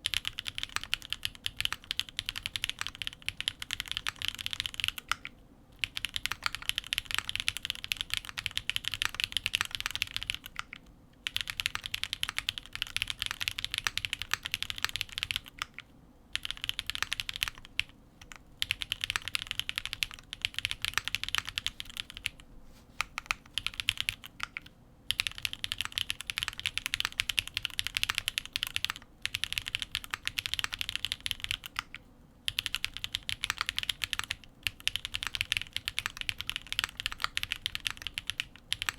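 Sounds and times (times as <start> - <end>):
mechanical keyboard typing: 0.0 - 22.4, 23.0 - 38.9.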